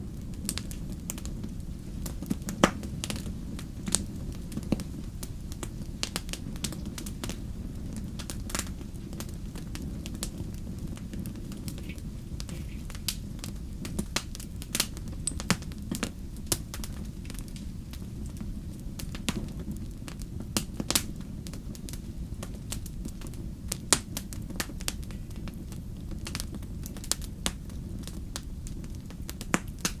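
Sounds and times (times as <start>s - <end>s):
fire crackling: 0.0s - 30.0s
fire pops and snaps: 0.2s - 30.0s.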